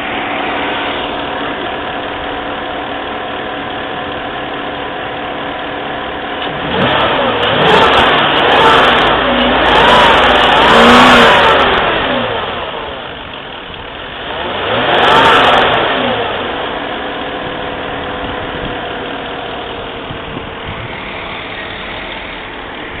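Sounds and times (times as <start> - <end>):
car engine revving and idling: 0.0 - 23.0.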